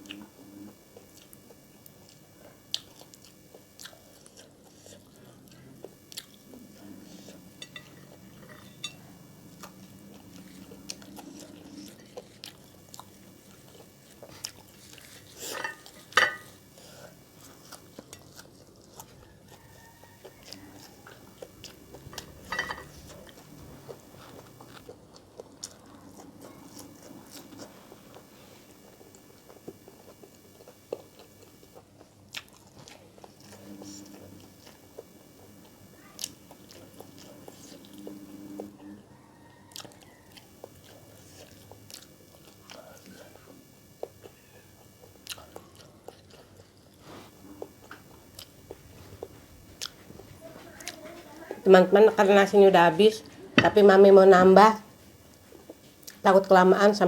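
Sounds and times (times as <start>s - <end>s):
person chewing food: 0.0s - 38.9s, 39.7s - 51.5s, 55.0s - 56.3s.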